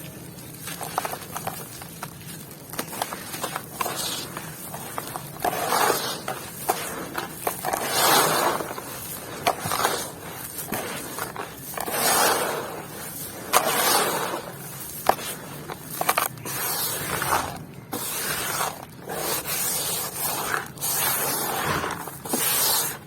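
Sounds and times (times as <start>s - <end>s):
dry material crunching: 0.0s - 23.0s.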